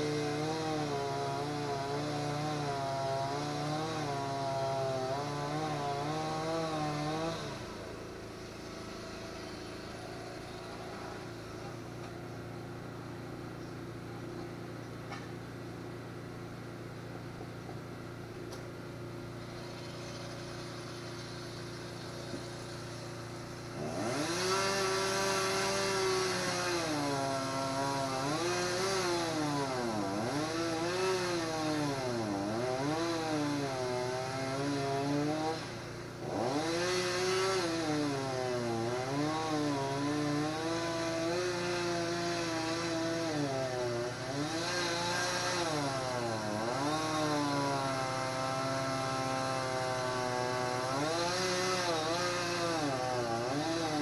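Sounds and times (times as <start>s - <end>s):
small engine running at high speed: 0.0s - 54.0s.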